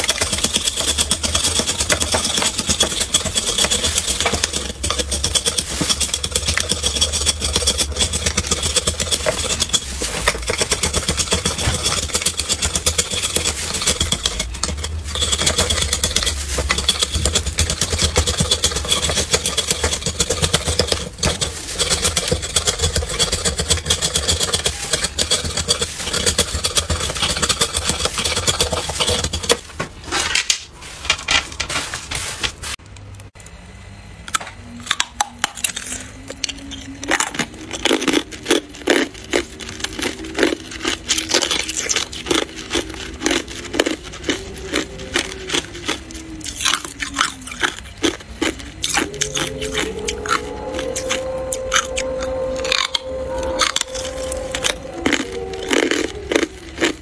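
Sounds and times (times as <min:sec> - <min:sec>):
knife scraping ice: 0:00.0 - 0:30.3, 0:37.2 - 0:57.0.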